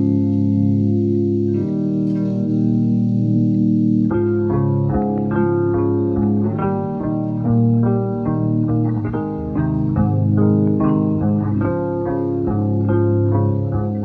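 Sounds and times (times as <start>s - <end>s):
bass line: 0.0s - 14.0s
plucked guitar notes: 0.0s - 14.0s.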